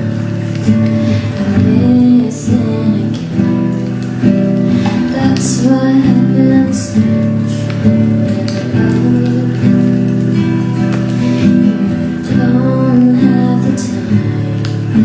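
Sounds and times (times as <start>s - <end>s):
acoustic guitar: 0.0s - 15.0s
campfire crackling: 0.0s - 15.0s
woman singing: 0.7s - 15.0s.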